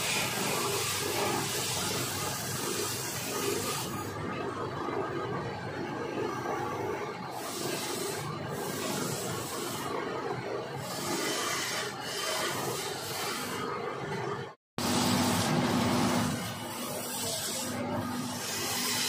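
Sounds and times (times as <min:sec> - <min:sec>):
lathe running: 0:00.0 - 0:04.3, 0:06.2 - 0:14.2, 0:14.8 - 0:19.0.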